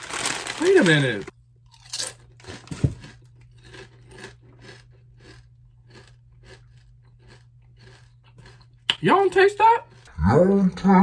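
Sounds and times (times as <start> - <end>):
person crunching potato chip: 0.0 - 10.2.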